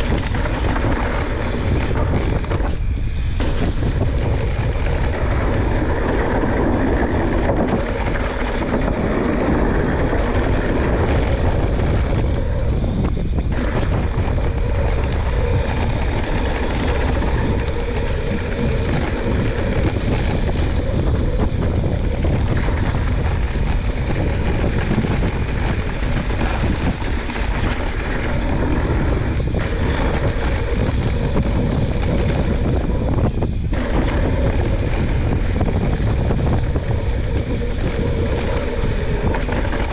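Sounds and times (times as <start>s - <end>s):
bike tyres rolling over dirt: 0.0s - 39.9s
wind rushing over microphone: 0.0s - 39.9s.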